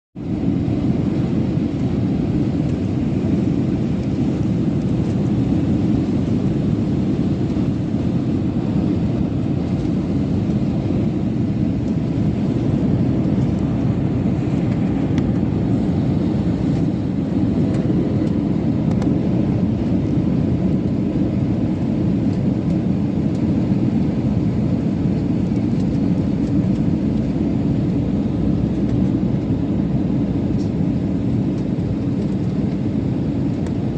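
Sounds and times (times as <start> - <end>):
airliner cabin rumble: 0.2 - 33.9.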